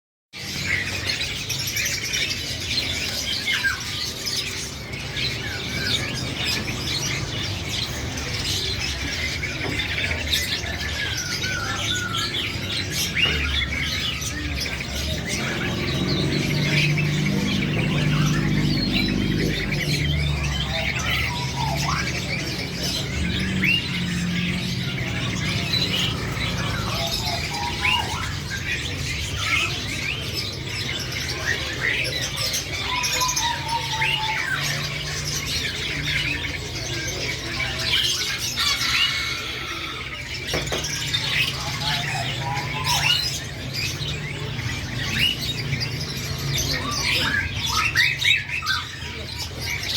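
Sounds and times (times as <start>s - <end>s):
crow chirps and squawks: 0.4s - 49.9s.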